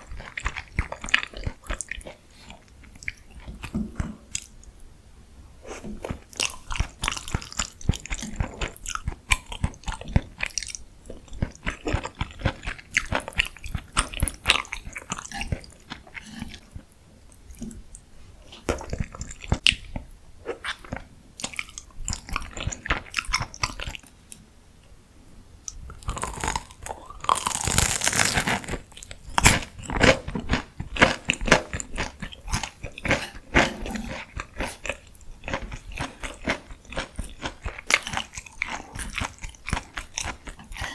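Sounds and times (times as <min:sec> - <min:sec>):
crunchy chewing of fried food: 0:00.0 - 0:04.6, 0:05.6 - 0:24.1, 0:25.9 - 0:40.9.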